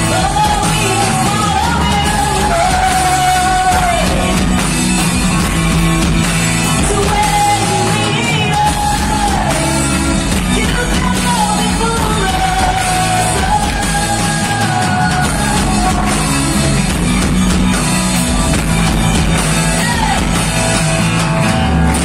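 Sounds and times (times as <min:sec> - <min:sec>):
song with singing voice: 0:00.0 - 0:22.0.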